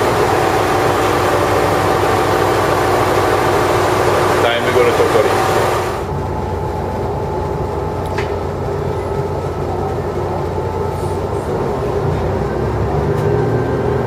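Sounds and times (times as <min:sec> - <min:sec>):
train engine hum and rumble: 0:00.0 - 0:14.0.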